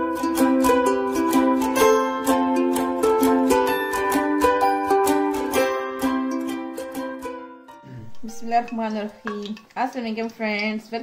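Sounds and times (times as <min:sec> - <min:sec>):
strummed beat: 0:00.0 - 0:09.0
plucked-string melody: 0:00.0 - 0:09.7.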